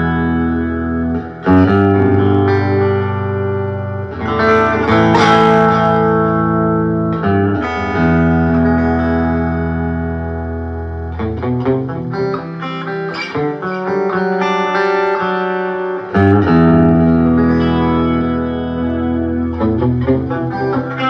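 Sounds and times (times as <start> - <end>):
electric guitar chords: 0.0 - 21.0.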